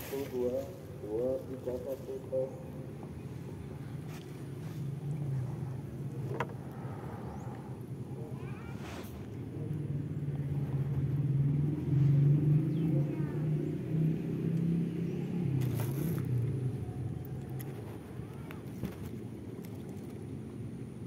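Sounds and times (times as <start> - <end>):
low droning engine passing: 0.0 - 21.0.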